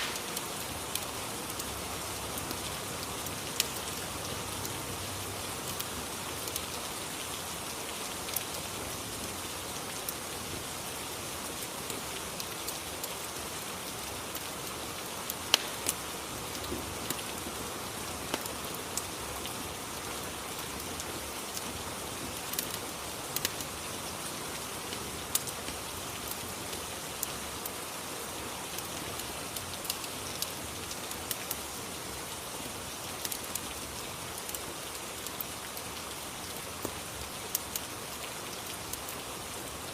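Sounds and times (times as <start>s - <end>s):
fire crackling: 0.0s - 4.7s, 5.5s - 27.8s, 28.7s - 31.7s, 33.0s - 35.8s
rain falling: 0.0s - 39.9s.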